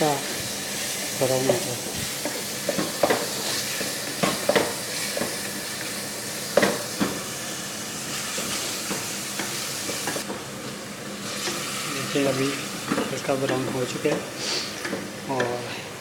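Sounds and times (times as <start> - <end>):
chicken sizzling in a pan: 0.0 - 15.4.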